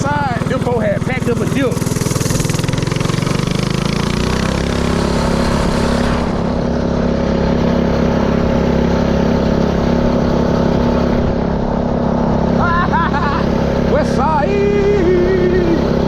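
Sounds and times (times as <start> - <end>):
mini-bike engine running: 0.0 - 16.0.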